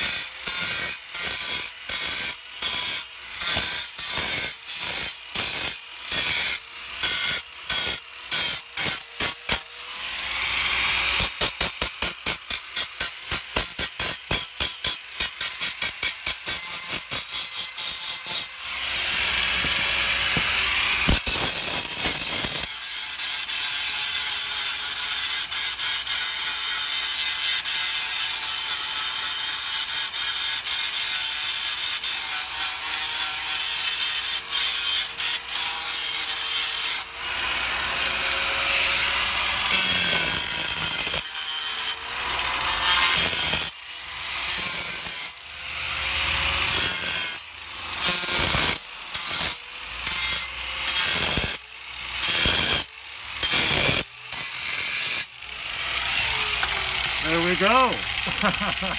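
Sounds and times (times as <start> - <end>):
angle grinder cutting stone: 0.0 - 58.9.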